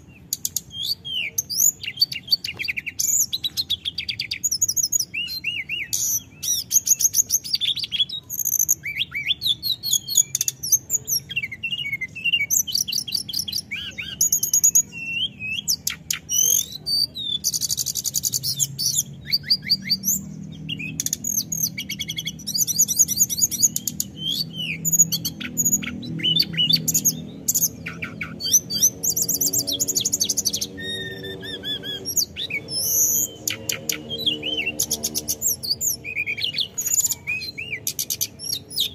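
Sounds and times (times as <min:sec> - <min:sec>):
bird singing high trills: 0:00.0 - 0:38.9.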